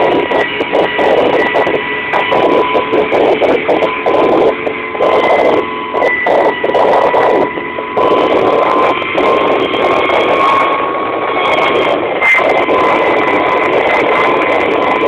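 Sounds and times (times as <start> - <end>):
helicopter engine and rotor drone: 0.0 - 15.0
steady high whine: 0.0 - 15.0.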